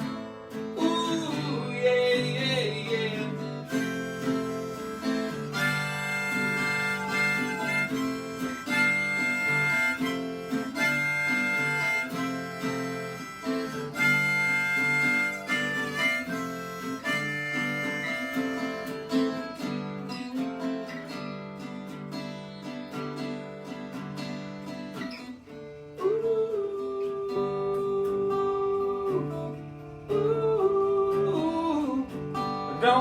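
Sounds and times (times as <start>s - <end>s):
harmonica melody: 0.0s - 32.9s
acoustic guitar: 0.0s - 33.0s.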